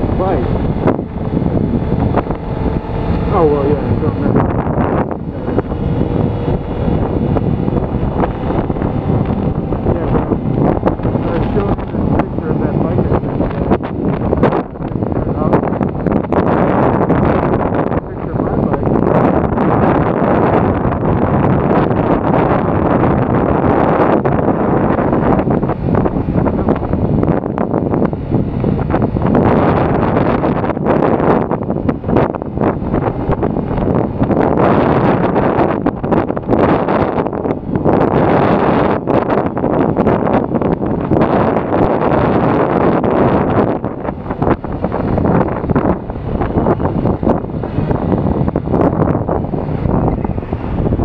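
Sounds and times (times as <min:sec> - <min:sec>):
motorcycle engine: 0:00.0 - 0:51.0
road noise: 0:00.0 - 0:51.0
wind rushing over microphone: 0:00.0 - 0:51.0.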